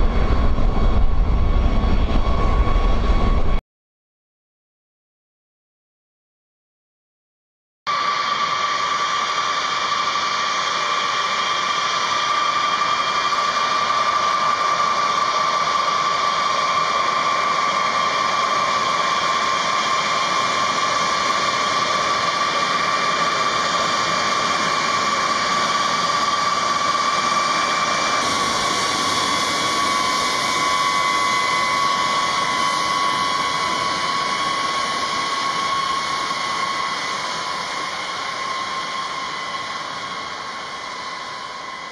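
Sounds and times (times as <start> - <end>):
jet engines whining: 0.0 - 3.6, 7.9 - 41.9.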